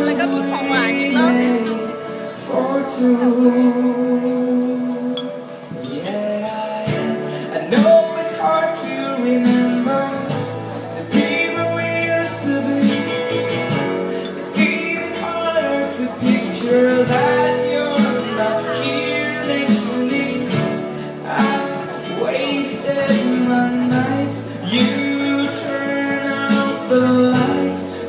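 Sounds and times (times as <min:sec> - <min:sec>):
person singing: 0:00.0 - 0:28.0
strummed acoustic guitar: 0:00.0 - 0:28.0.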